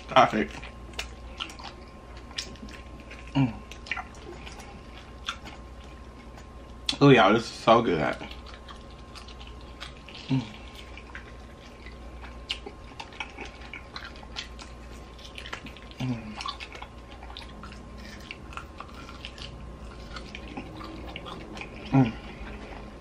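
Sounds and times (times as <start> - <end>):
wet chewing and mouth smacking: 0.0 - 7.0, 8.0 - 23.0.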